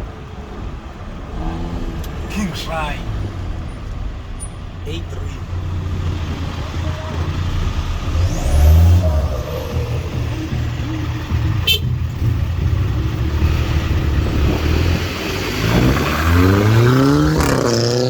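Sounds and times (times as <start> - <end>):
car engine through loud exhaust: 0.0 - 18.0.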